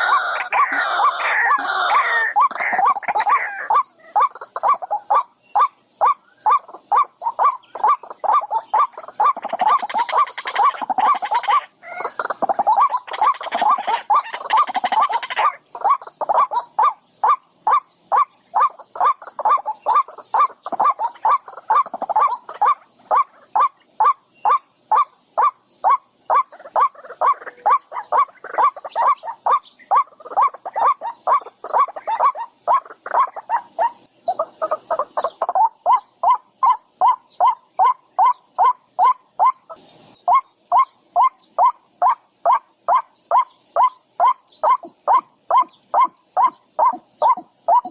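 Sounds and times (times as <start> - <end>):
bird calling: 0.0 - 47.9.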